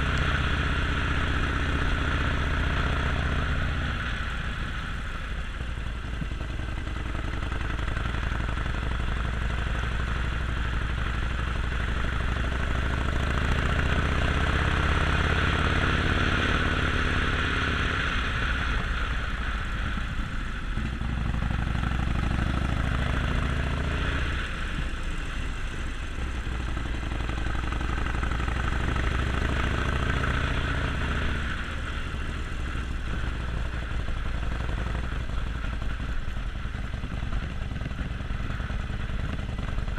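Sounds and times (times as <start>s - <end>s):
motorcycle engine accelerating: 0.0s - 39.9s
steady rushing noise: 0.0s - 39.9s.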